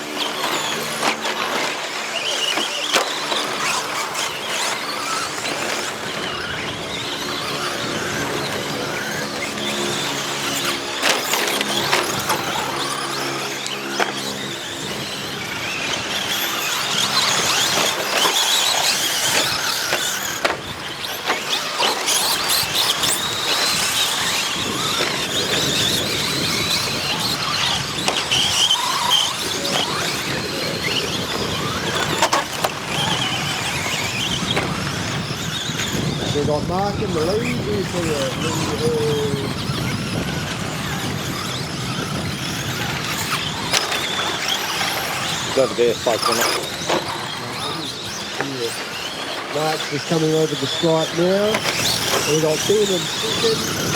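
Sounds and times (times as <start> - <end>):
rc truck motors whining: 0.0 - 53.9.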